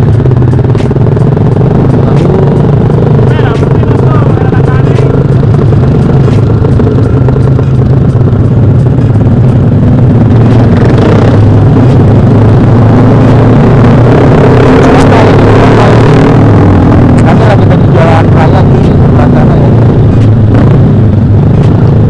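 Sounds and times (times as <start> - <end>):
motorcycle engine loud exhaust: 0.0 - 22.0.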